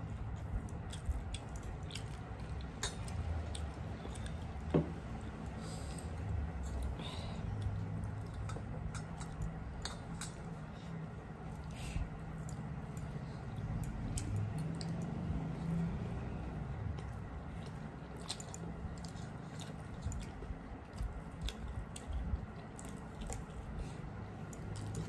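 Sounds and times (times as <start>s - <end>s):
chewing and lip-smacking: 0.0s - 25.0s.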